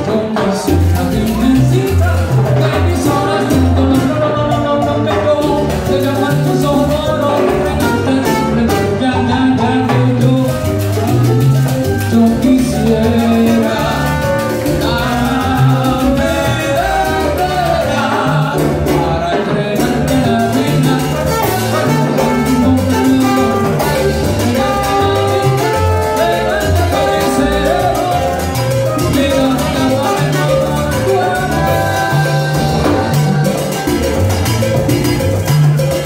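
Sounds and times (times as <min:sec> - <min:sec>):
person singing: 0:00.0 - 0:34.1
salsa band playing: 0:00.0 - 0:36.0.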